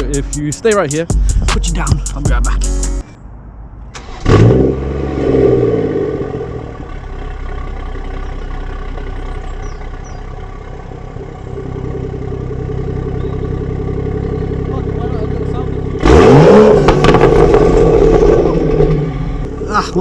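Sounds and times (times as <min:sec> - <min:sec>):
car engine starting and idling: 0:03.8 - 0:20.0.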